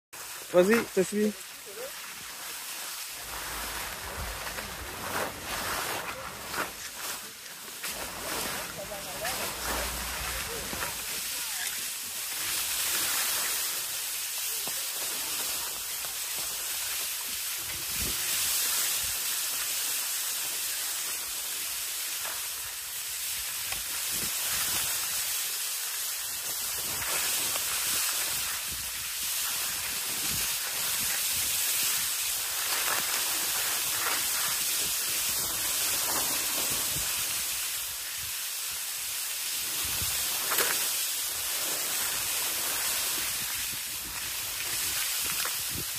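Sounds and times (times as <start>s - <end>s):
skis hissing on snow: 0.2s - 45.9s.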